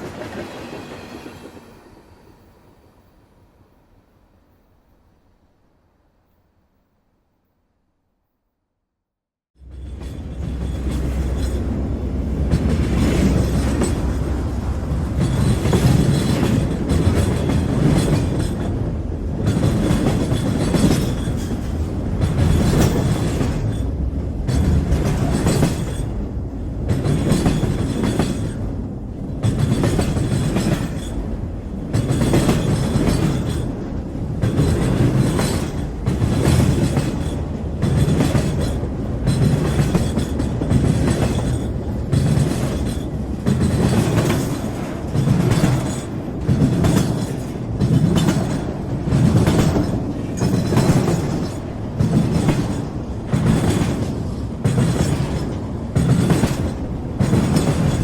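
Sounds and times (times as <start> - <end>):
train wheels rumbling on rails: 0.0 - 3.3, 9.6 - 58.0.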